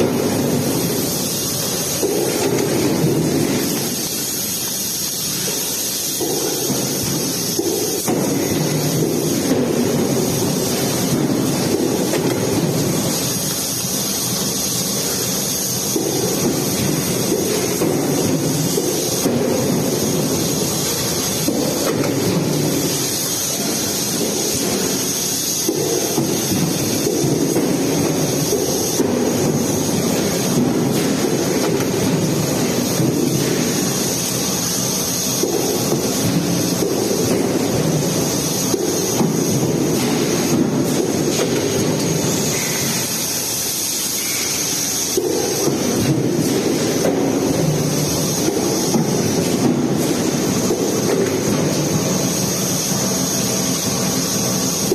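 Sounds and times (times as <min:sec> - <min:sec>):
industrial machinery rumble with hiss: 0:00.0 - 0:54.9.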